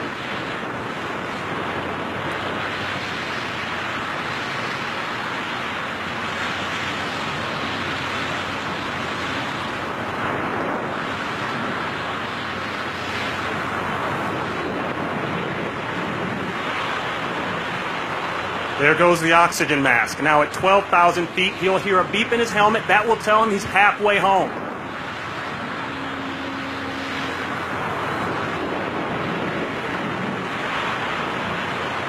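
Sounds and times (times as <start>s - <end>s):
wind noise on microphone: 0.0s - 32.0s.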